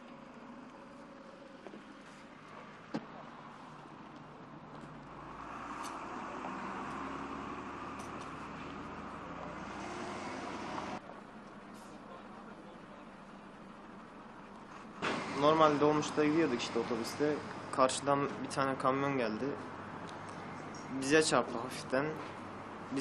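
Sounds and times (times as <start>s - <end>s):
roadside outdoor noise: 0.0s - 23.0s.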